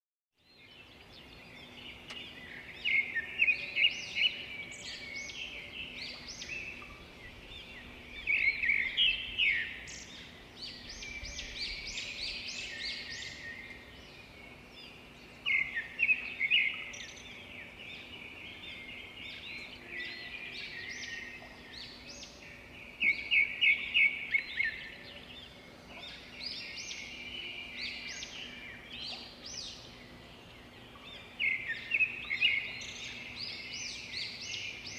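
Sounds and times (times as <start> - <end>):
birds chirping and singing: 0.4 - 34.9.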